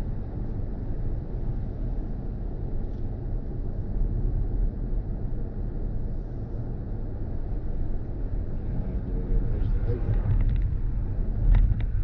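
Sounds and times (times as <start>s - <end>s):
tyre and wind noise inside car: 0.0s - 12.0s.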